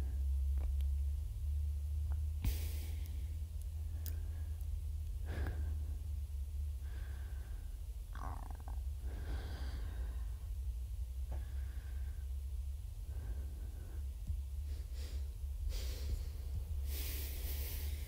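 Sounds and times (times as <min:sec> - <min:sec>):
quiet breaths: 0:00.0 - 0:18.0
steady low hum: 0:00.0 - 0:18.0.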